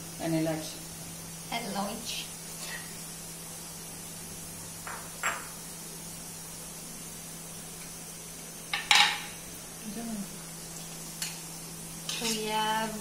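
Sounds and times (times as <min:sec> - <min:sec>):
cooking hiss on stove: 0:00.0 - 0:13.0.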